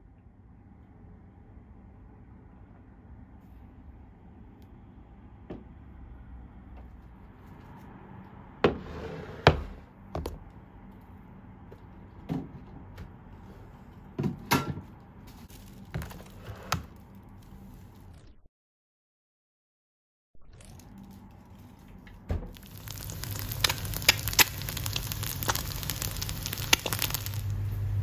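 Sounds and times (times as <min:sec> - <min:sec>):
low steady background hum: 0:00.0 - 0:18.1, 0:20.6 - 0:28.0.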